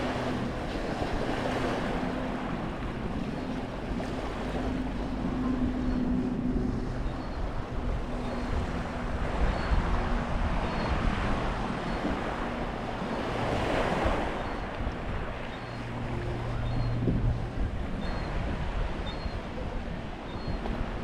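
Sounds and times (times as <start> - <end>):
small sea waves washing ashore: 0.0 - 21.0
wind gusting on microphone: 0.0 - 21.0.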